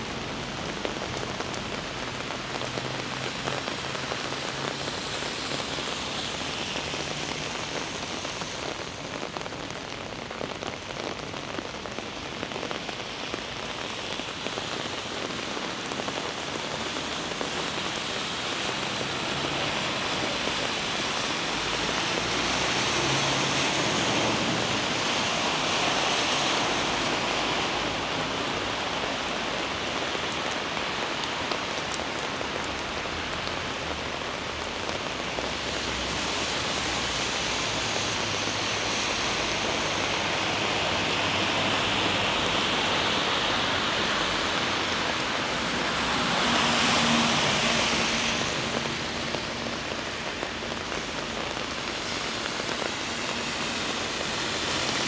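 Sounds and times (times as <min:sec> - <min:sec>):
heavy rain on street: 0:00.0 - 0:55.0.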